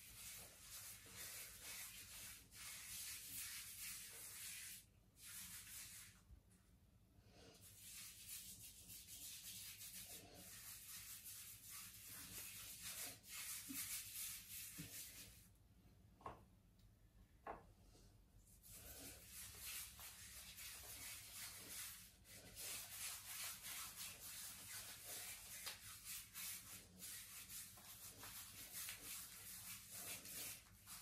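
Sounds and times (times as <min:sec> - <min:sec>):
hands rubbing shaving foam: 0:00.0 - 0:06.3, 0:07.6 - 0:15.5, 0:18.5 - 0:31.0.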